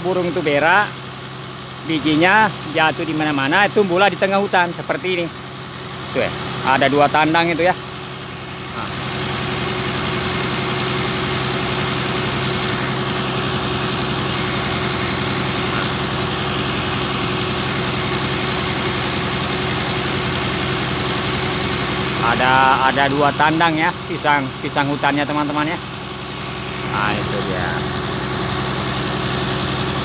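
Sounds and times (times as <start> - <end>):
water pump engine running: 0.0 - 30.0.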